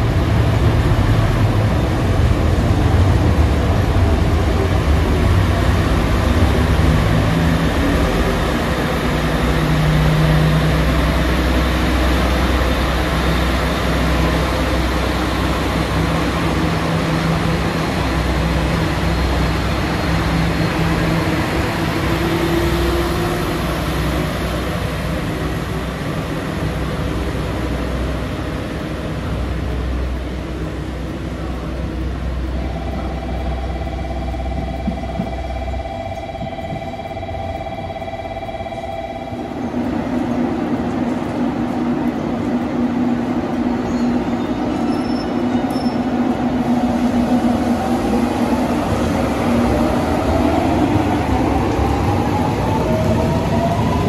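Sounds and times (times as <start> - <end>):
train running past: 0.0 - 54.0.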